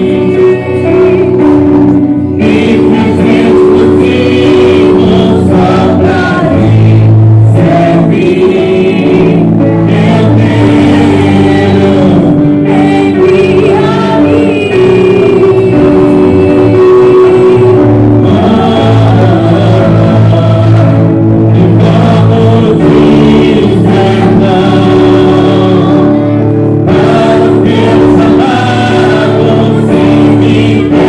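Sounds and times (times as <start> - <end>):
band playing: 0.0 - 31.0
group singing gospel hymn: 0.0 - 31.0.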